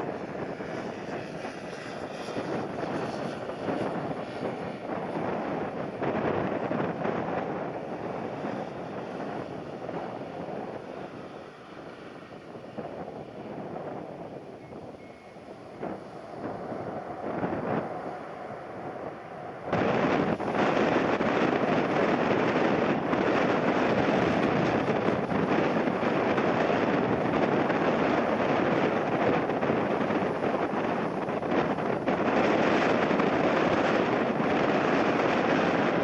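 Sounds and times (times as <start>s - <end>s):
gusty wind buffeting microphone: 0.0s - 36.0s.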